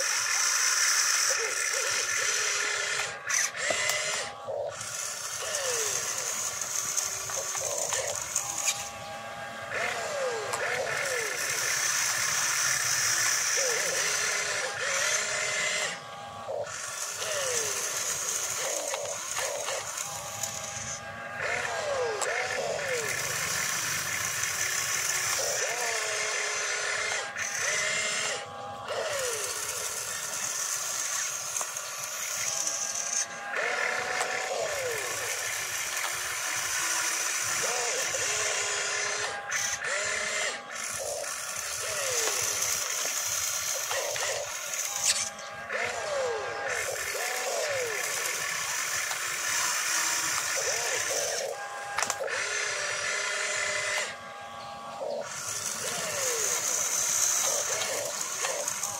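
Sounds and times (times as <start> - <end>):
electric motors whining: 0.0 - 58.9.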